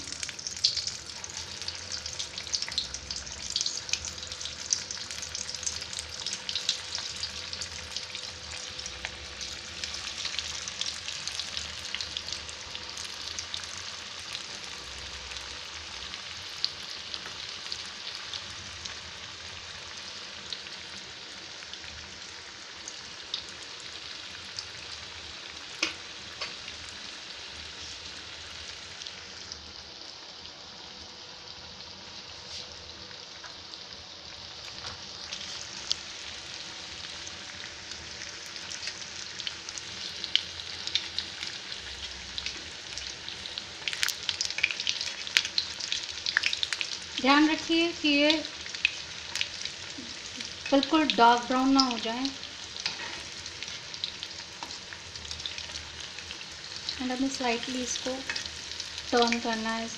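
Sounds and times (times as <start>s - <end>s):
food deep-frying in oil: 0.0s - 59.9s.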